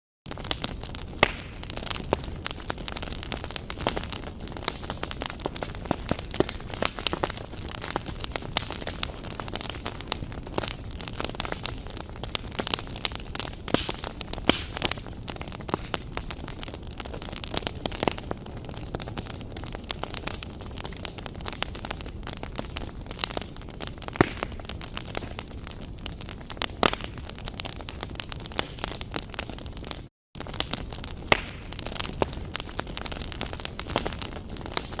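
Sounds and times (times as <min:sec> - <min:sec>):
fire crackling: 0:00.3 - 0:35.0.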